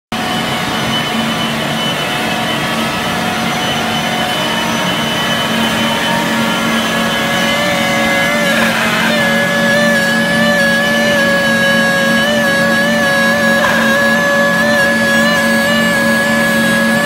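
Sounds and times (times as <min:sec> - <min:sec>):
machine humming and whirring: 0:00.1 - 0:17.0.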